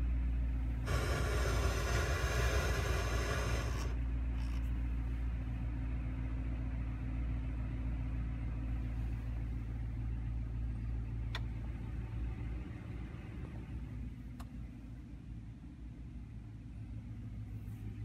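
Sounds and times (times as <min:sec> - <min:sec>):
engine idling inside cab: 0:00.0 - 0:18.0.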